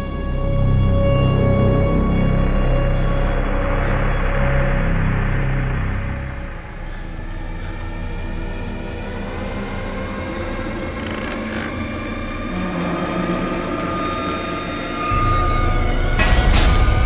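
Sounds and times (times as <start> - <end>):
eerie drone: 0.0 - 17.0
low rumble: 0.4 - 17.0.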